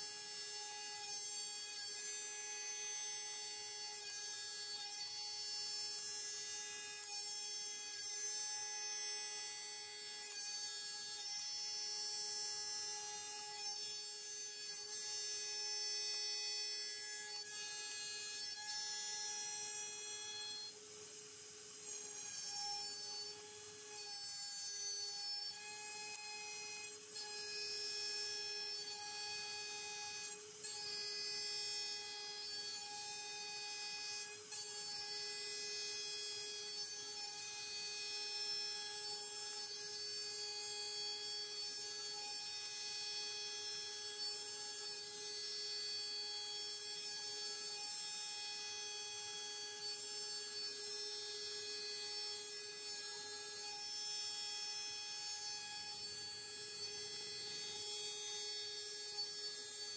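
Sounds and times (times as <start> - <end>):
router spindle whine: 0.0 - 59.9.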